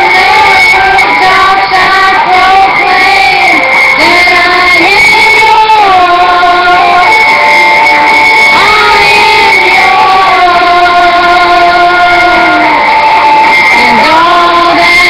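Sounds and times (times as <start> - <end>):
loud music with high singing: 0.0 - 15.0.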